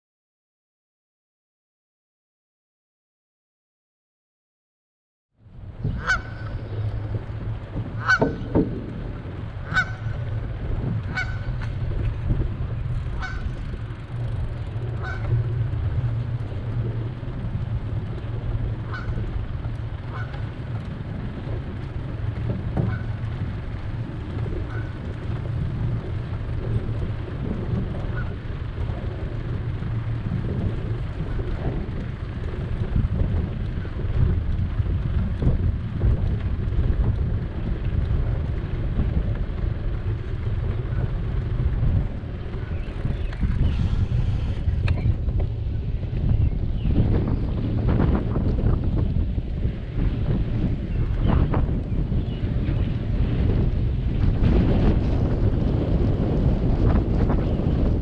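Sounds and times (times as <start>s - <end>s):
steady low rumble: 5.4s - 58.0s.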